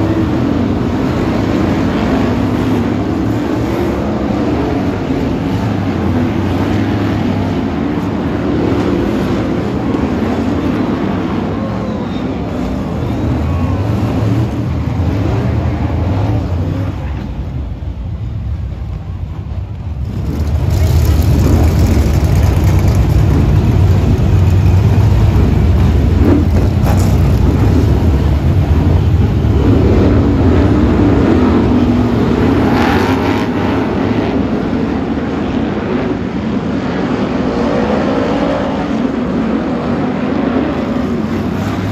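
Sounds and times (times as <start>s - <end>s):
racing car engines running hard: 0.0s - 41.9s.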